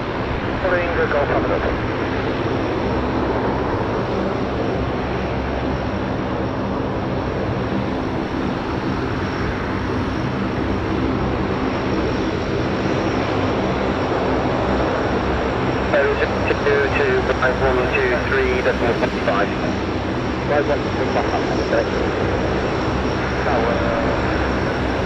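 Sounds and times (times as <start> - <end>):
jet engines rushing and whining: 0.0 - 25.0.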